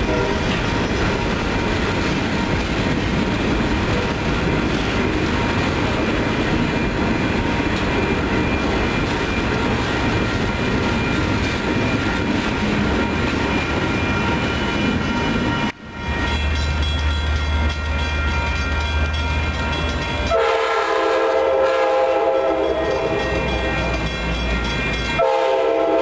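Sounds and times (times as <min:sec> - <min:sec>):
clickety-clack of train wheels: 0:00.0 - 0:26.0
freight train rumbling past: 0:00.0 - 0:26.0.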